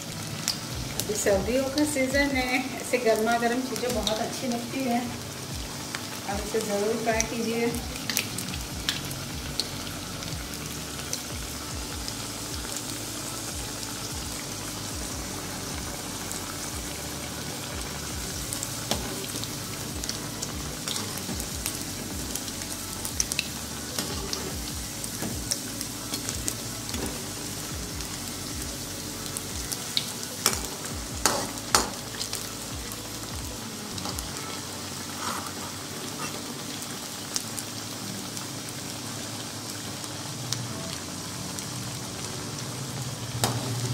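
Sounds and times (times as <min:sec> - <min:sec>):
patties sizzling in hot oil: 0:00.0 - 0:43.9.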